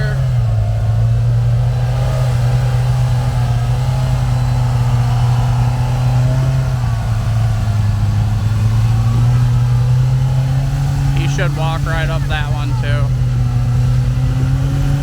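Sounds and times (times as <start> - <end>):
utility vehicle engine idling: 0.0 - 15.0.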